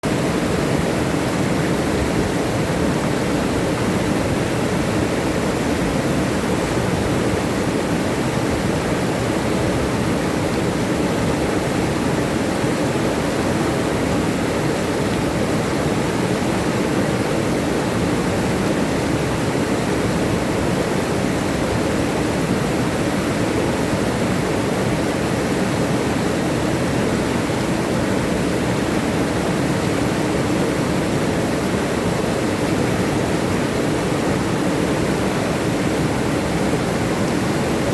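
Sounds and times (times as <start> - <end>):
river water rushing over rocks: 0.0 - 37.9.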